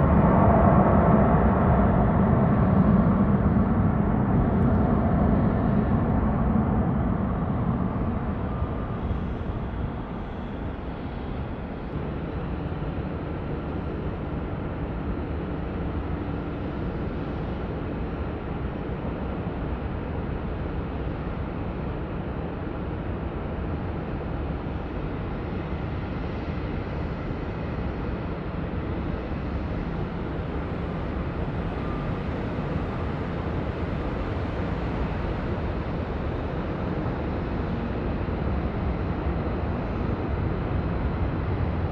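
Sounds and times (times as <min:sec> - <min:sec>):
jet engine noise: 0:00.0 - 0:41.9.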